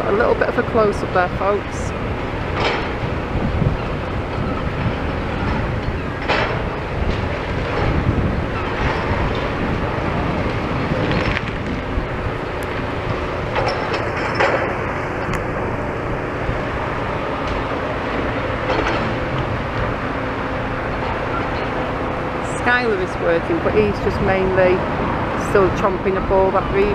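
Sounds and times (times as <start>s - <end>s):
excavator diesel engines running: 0.0s - 26.9s.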